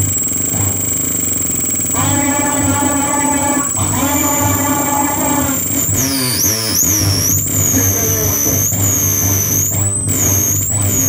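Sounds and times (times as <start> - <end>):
steady low hum: 0.0 - 11.0
swooping whistling tone: 0.0 - 11.0.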